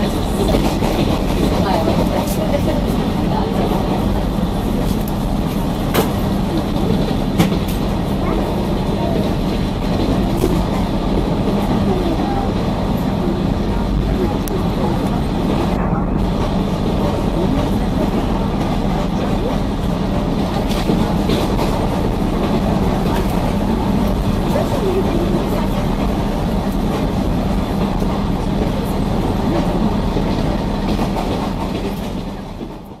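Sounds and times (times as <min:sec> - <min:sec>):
train rumble and hum: 0:00.0 - 0:33.0.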